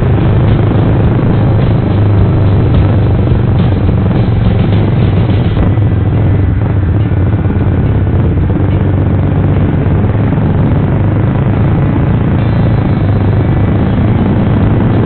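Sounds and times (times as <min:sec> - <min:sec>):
motorcycle engine drone: 0:00.0 - 0:15.0.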